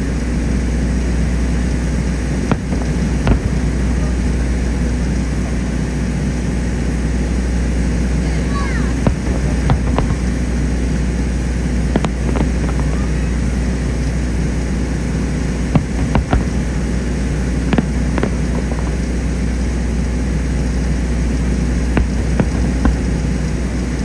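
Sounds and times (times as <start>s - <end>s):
fireworks exploding: 0.8s - 24.0s
sharp firework cracks: 1.2s - 24.0s.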